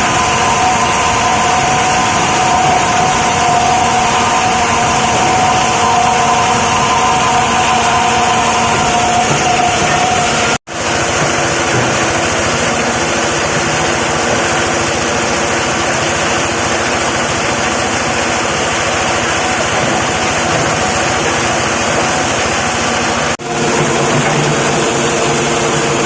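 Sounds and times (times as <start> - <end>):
plastic grinding machine running: 0.0 - 26.0.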